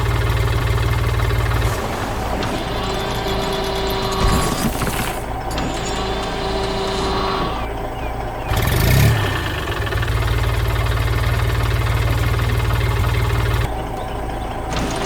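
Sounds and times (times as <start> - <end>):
heavy vehicle engine chugging: 0.0 - 15.0.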